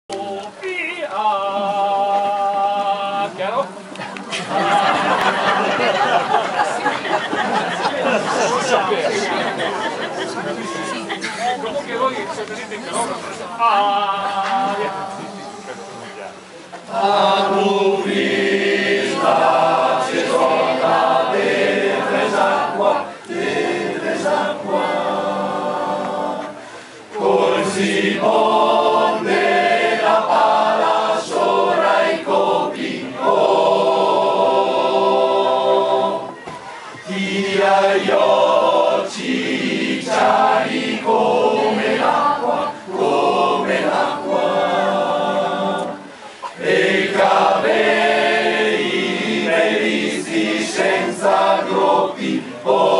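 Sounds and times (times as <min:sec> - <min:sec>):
mixed choir singing a cappella: 0:00.0 - 0:03.5, 0:04.2 - 0:16.1, 0:16.8 - 0:36.4, 0:37.0 - 0:52.9.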